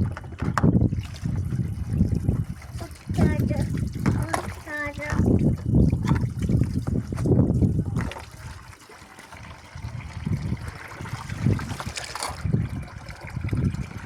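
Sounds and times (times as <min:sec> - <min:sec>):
water splashing over dishes: 0:00.0 - 0:14.0.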